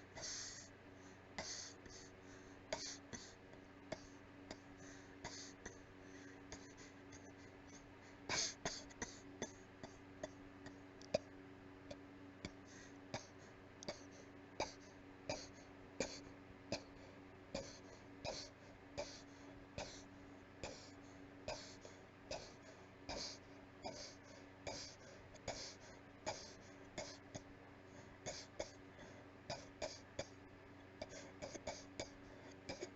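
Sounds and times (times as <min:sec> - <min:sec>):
weak breathy coughing: 0:00.0 - 0:11.3, 0:12.5 - 0:30.4, 0:31.0 - 0:32.9.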